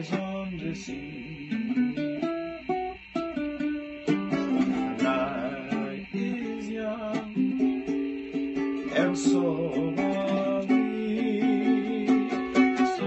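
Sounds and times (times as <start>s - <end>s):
solo ukulele ballad: 0.0s - 13.0s.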